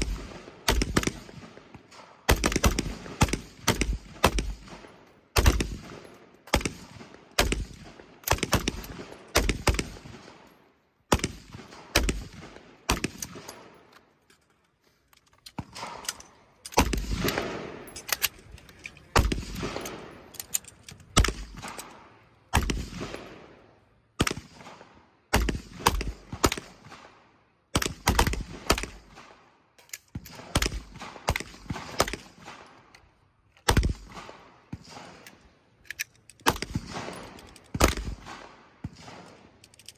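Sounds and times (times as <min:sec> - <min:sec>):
gunshots echoing: 0:00.0 - 0:13.9, 0:15.6 - 0:20.5, 0:21.1 - 0:32.9, 0:33.6 - 0:35.4, 0:36.4 - 0:39.6.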